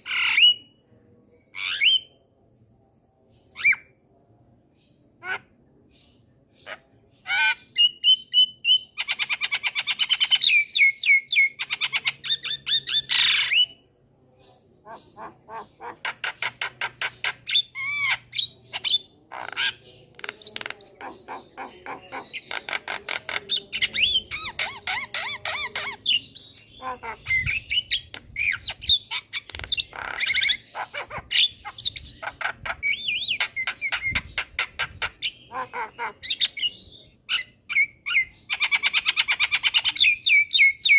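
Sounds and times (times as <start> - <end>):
myna bird chattering and whistling: 0.0 - 0.8, 6.6 - 13.8, 14.4 - 40.9.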